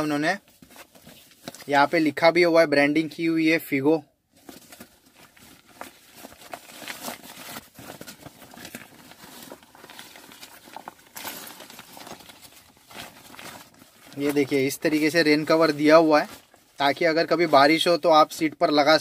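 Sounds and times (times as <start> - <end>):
fabric cover rustling: 0.0 - 2.2, 4.3 - 18.5.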